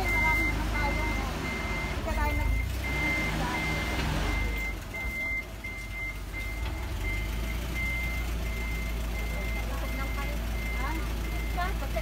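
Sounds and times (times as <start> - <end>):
minibus engine idling: 0.0 - 12.0.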